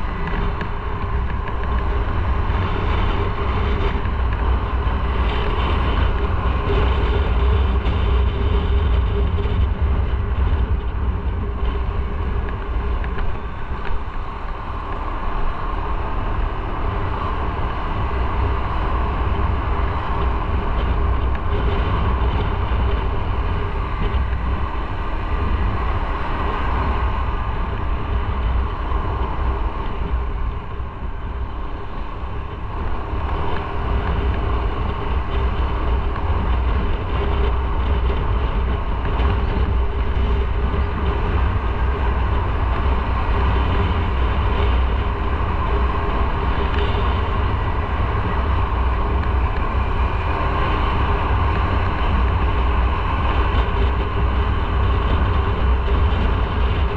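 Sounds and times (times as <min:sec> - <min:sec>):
motorcycle engine running: 0:00.0 - 0:56.9
road and wind noise: 0:00.0 - 0:56.9.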